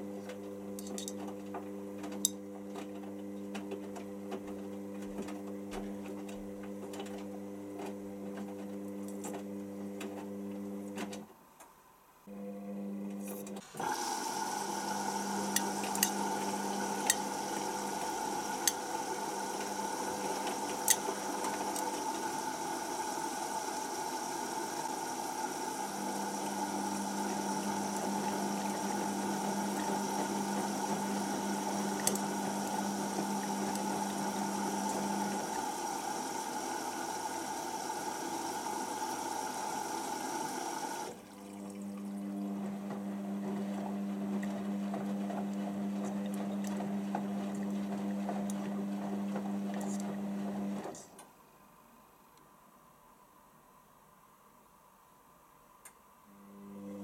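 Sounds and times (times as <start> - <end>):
washing machine motor hum: 0.0 - 11.3, 12.3 - 51.1, 56.3 - 57.0.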